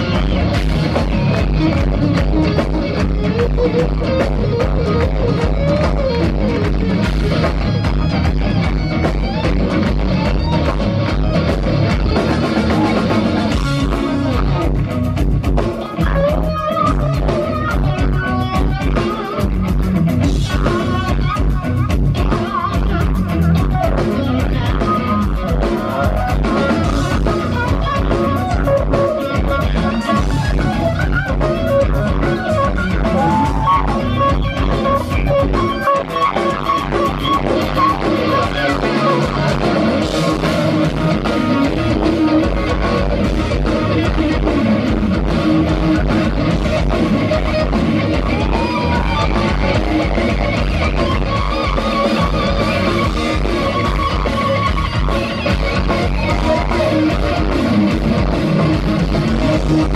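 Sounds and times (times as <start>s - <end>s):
bass: 0.0s - 59.9s
drum kit steady beat: 0.0s - 59.9s
electric guitars: 0.0s - 59.9s.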